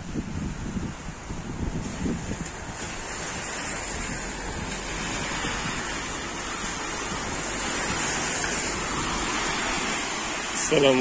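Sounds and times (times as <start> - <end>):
rain on wet pavement: 0.1 - 11.0.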